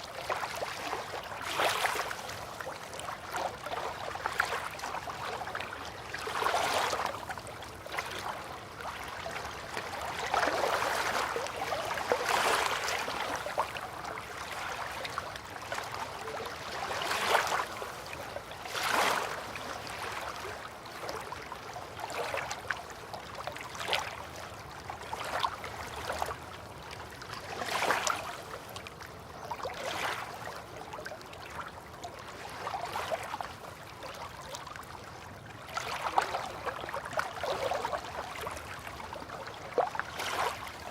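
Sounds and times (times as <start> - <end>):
river water lapping and splashing: 0.0 - 40.9.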